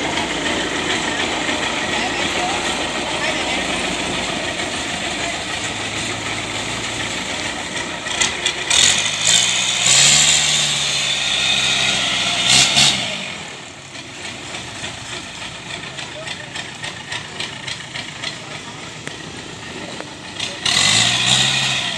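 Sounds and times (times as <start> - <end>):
combine harvester diesel engine revving: 0.0 - 21.9.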